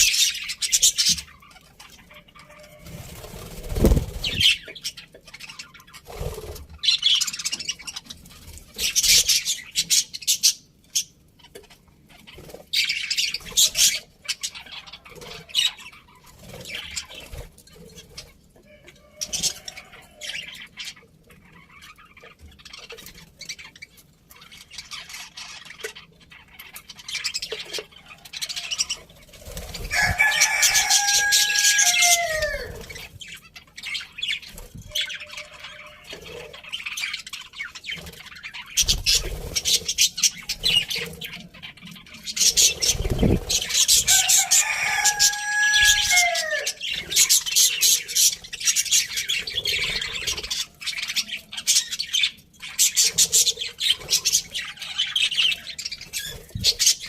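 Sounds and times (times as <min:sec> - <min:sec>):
budgies chattering and chirping: 0:00.0 - 0:57.0.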